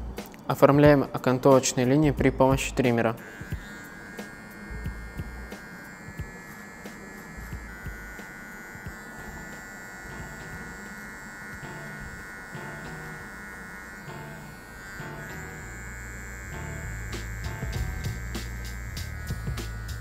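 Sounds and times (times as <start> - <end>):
electric hair trimmer buzzing: 2.5 - 20.0.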